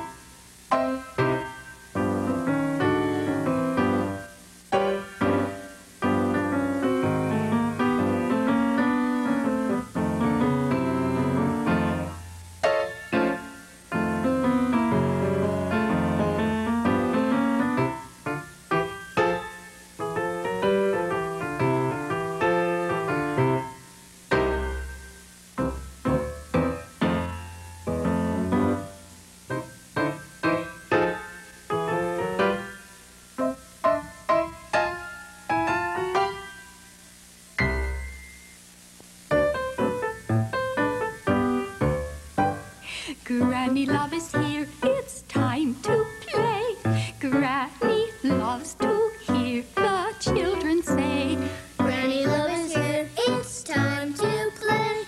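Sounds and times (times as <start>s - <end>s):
instrumental piano music: 0.0s - 37.0s, 37.6s - 38.6s, 39.3s - 55.0s.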